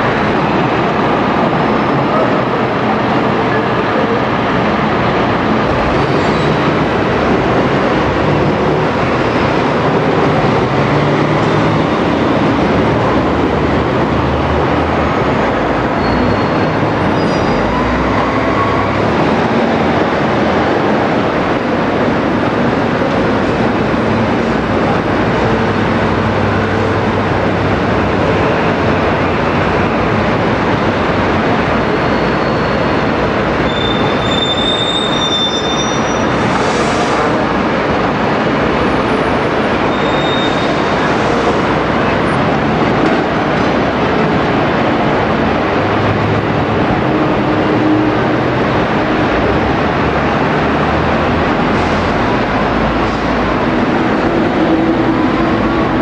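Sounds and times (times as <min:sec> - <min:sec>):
loud rushing and rumbling: 0:00.0 - 0:34.1, 0:36.2 - 0:56.0.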